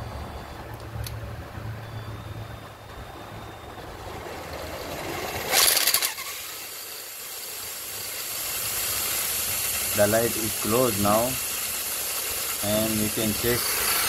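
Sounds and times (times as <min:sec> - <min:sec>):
power drill humming: 0:00.0 - 0:14.0.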